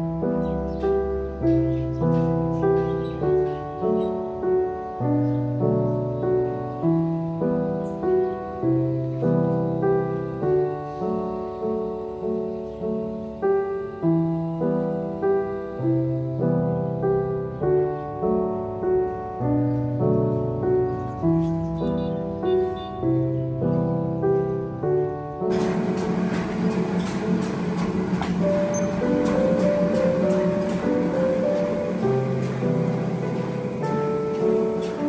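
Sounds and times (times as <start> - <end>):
slow solo piano music: 0.0 - 35.0.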